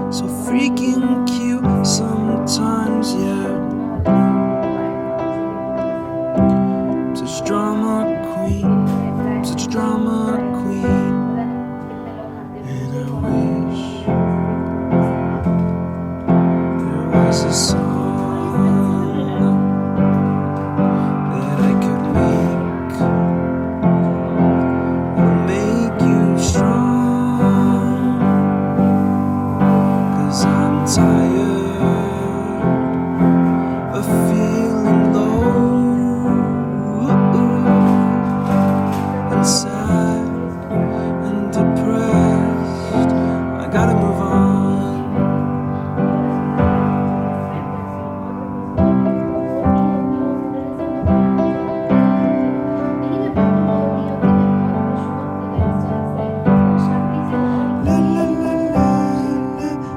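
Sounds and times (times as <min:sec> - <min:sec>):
slow piano pop song: 0:00.0 - 0:59.9.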